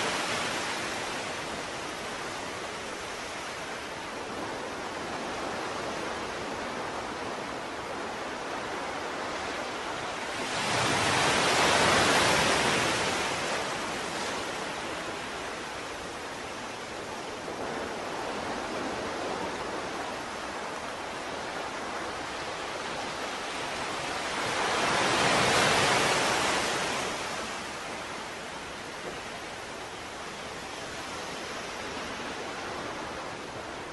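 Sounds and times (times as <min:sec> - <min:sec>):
waves washing out: 0:00.0 - 0:33.9.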